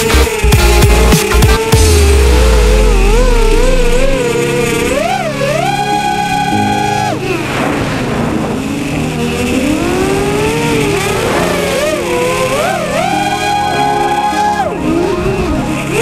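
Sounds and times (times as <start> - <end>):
gliding lead synth: 0.0 - 16.0
held synth chords: 0.0 - 16.0.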